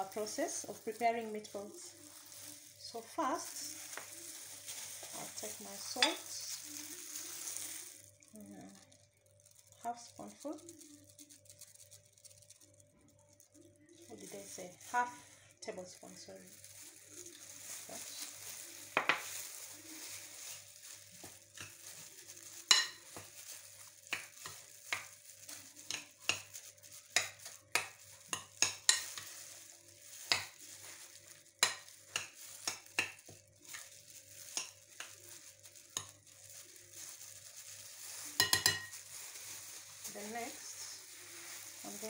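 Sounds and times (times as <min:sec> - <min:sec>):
gloved hand mixing minced meat: 0:00.0 - 0:42.0
plastic glove clicks and crinkles: 0:00.0 - 0:42.0.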